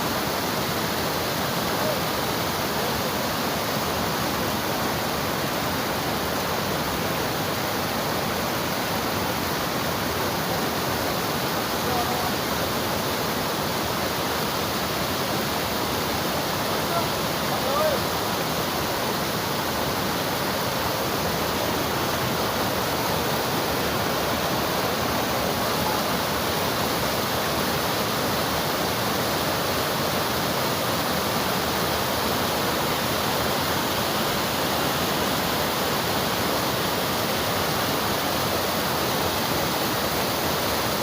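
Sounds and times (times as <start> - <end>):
stream flowing: 0.0 - 41.0.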